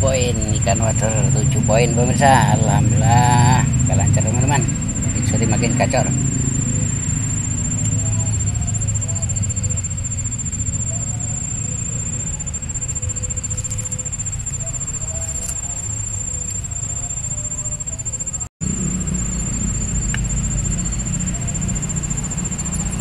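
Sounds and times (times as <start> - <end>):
low steady rumble: 0.0 - 17.0, 17.8 - 23.0
high-pitched insect trill: 0.0 - 23.0.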